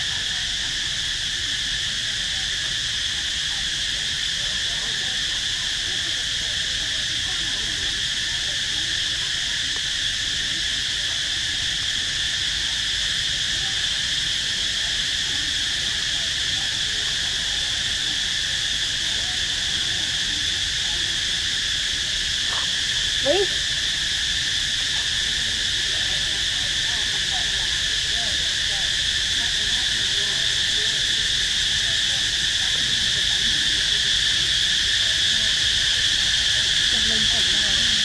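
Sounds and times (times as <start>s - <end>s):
high-pitched insect drone: 0.0s - 38.0s.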